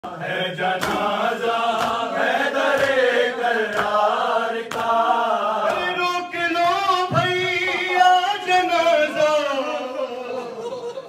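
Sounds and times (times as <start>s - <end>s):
men chanting a lament: 0.1s - 11.0s.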